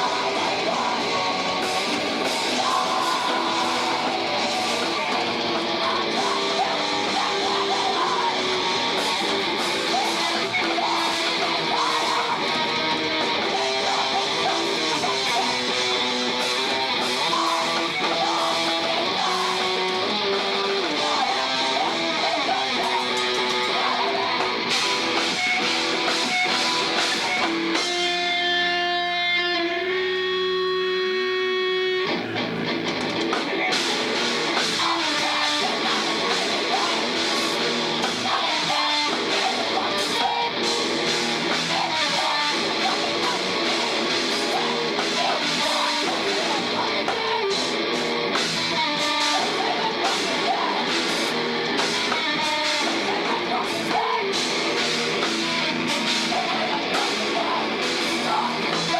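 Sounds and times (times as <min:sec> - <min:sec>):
live rock band: 0:00.0 - 0:58.9.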